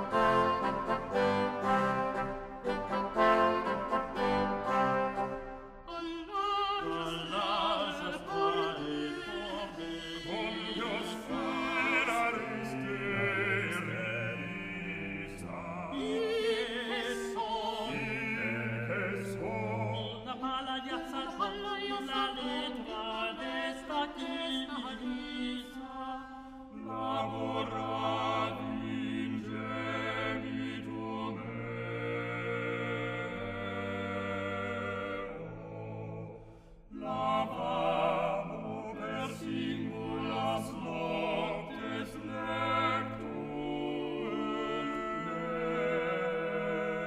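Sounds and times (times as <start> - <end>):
voices singing polyphony: 0.0 - 47.0.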